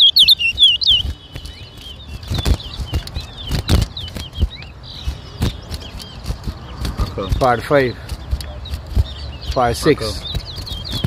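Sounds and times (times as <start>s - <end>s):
faint bird twittering: 0.0s - 11.0s
finch whistling song: 0.0s - 11.0s.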